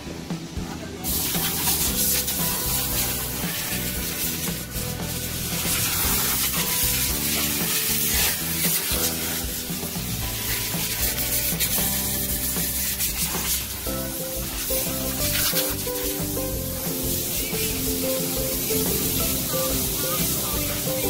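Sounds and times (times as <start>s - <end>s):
background music: 0.0s - 21.0s
steady hiss: 0.0s - 21.0s.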